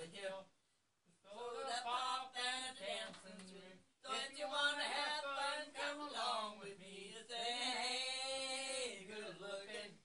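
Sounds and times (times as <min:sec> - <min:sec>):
man and woman singing: 0:00.0 - 0:00.5, 0:01.3 - 0:10.0.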